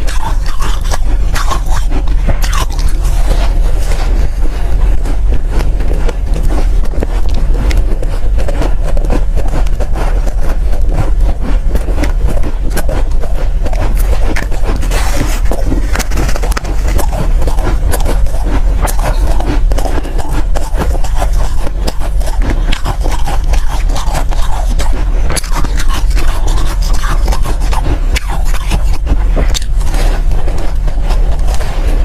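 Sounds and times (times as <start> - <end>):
ice crunching: 0.0 - 32.0
steady low rumble: 0.0 - 32.0.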